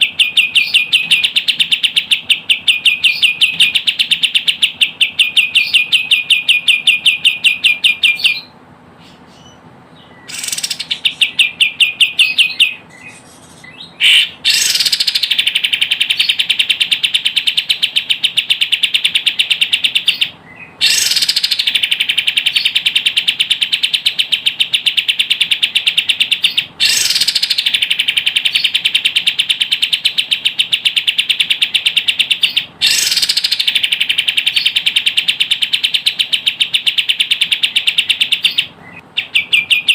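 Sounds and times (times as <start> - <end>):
songbird fast chatter: 0.0 - 39.9.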